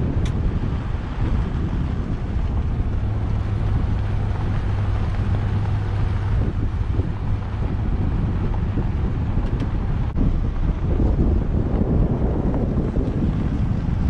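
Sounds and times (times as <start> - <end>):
road noise: 0.0 - 14.0
truck engine drone: 0.0 - 14.0
wind buffeting microphone: 0.0 - 14.0.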